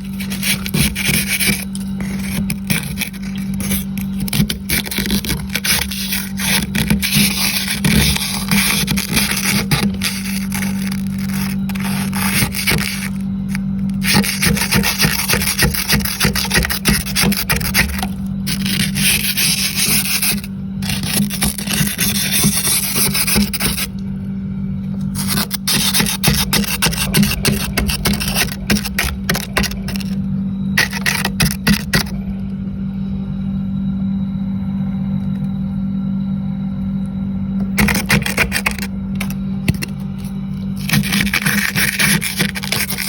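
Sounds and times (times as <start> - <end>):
frost being scraped: 0.0 - 24.0, 25.0 - 30.2, 30.8 - 32.1, 37.7 - 43.0
steady low hum: 0.0 - 43.0.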